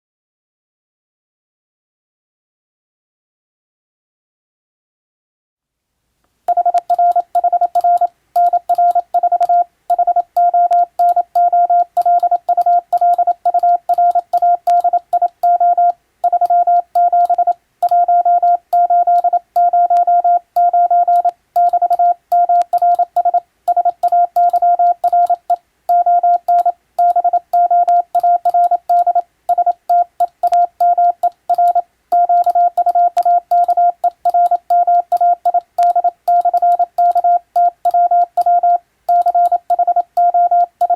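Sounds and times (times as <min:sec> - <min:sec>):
morse code beeps: 0:06.5 - 0:40.9.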